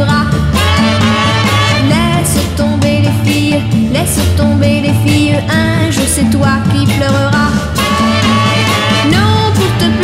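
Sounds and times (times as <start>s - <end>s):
song with bass drums and vocals: 0.0s - 10.0s.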